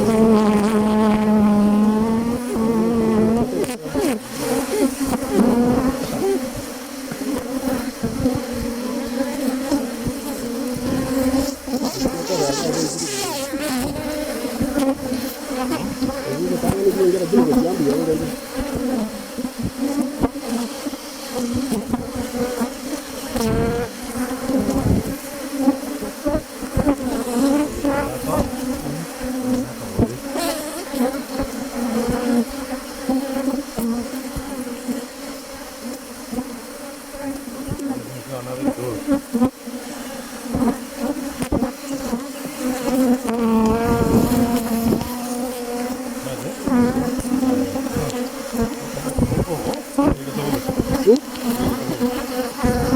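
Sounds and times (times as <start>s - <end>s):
honeybees buzzing: 0.0s - 52.9s.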